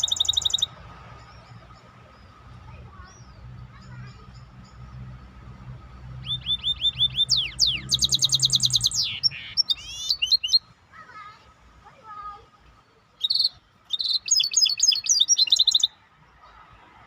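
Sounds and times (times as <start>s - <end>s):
songbird singing: 0.0s - 16.6s.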